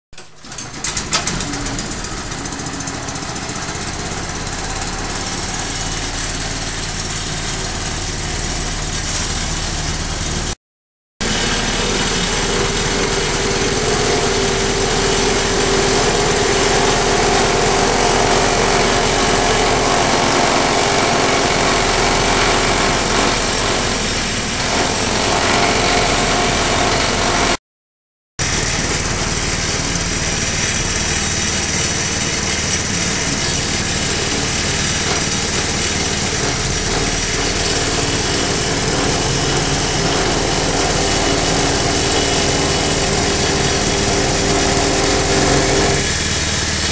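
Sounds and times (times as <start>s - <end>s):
grass chopper machine running: 0.2s - 10.6s, 11.2s - 27.6s, 28.4s - 46.9s.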